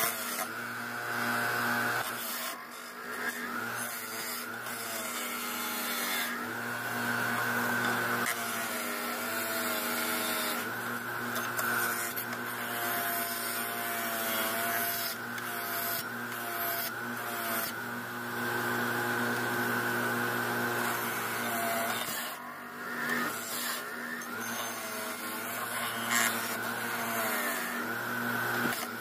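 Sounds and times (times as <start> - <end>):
bench grinder motor hum: 0.0 - 29.0.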